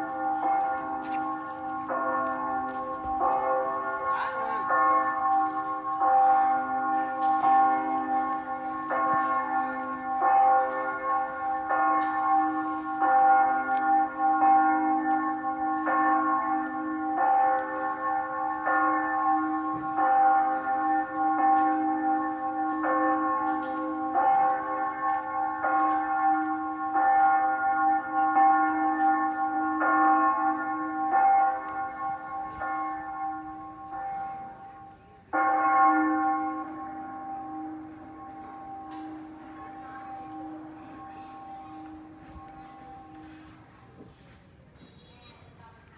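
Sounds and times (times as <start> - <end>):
church bells ringing: 0.0 - 44.2.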